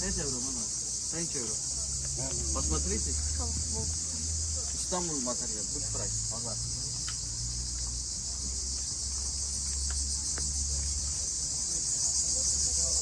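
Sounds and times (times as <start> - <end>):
cicadas shrilling: 0.0 - 13.0.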